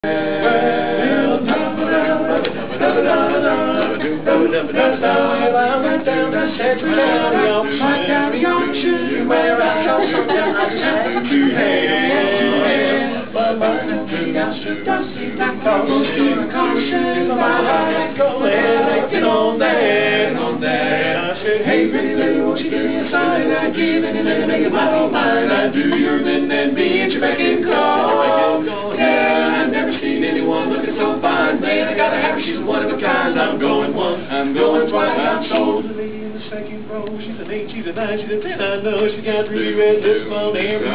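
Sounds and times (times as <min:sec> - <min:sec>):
men singing a cappella harmony: 0:00.0 - 0:40.9.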